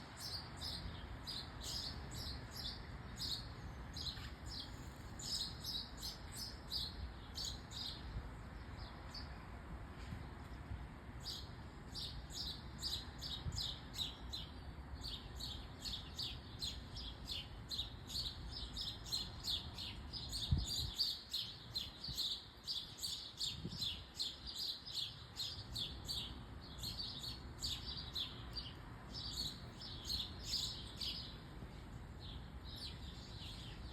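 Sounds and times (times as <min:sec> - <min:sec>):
small birds chirping: 0:00.0 - 0:09.4, 0:10.0 - 0:33.9.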